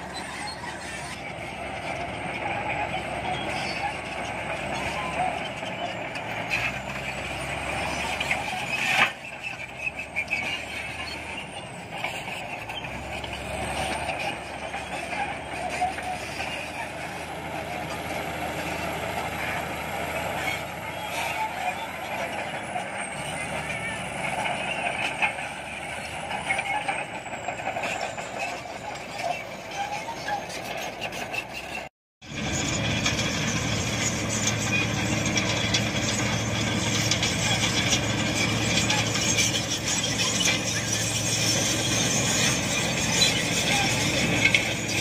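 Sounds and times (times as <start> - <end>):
bulldozer diesel engine under load: 0.0 - 45.0.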